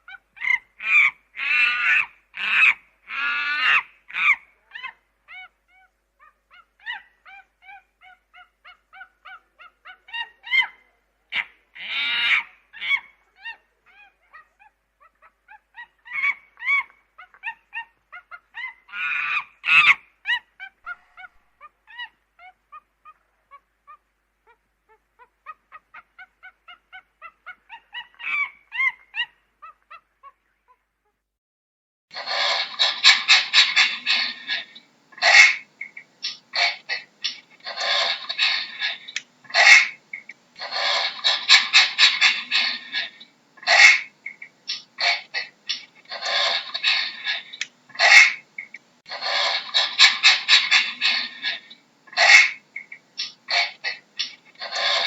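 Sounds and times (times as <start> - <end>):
chimpanzee hooting and screaming: 0.1 - 23.3, 32.2 - 55.0.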